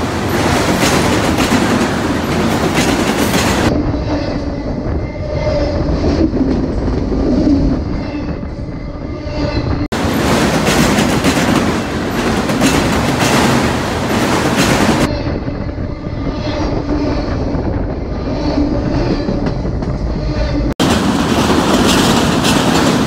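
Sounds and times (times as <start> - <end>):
freight train wheels clattering: 0.0 - 8.8, 9.6 - 15.1, 16.7 - 23.0.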